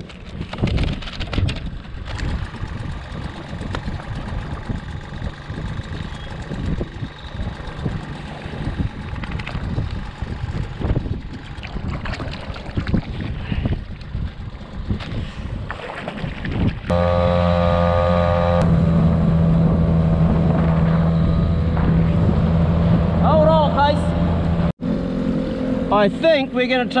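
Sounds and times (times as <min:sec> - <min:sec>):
wind buffeting microphone: 0:00.0 - 0:17.0, 0:18.7 - 0:24.7
water washing around boat: 0:00.0 - 0:24.4.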